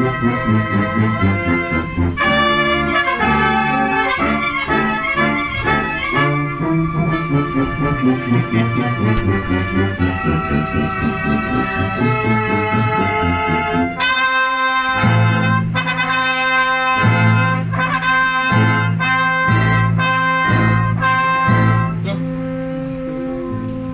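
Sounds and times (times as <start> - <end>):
pulsing bass line: 0.0 - 22.5
brass band playing: 0.0 - 23.9.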